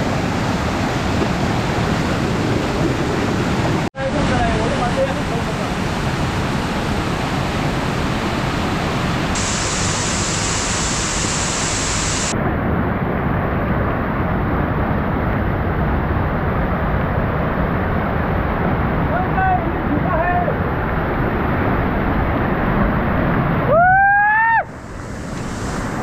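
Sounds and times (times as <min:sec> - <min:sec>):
falling water roar: 0:00.0 - 0:26.0.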